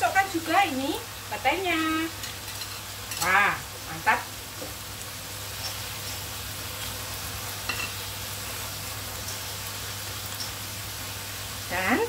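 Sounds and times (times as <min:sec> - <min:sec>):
vegetables sizzling in frying pan: 0:00.0 - 0:12.0.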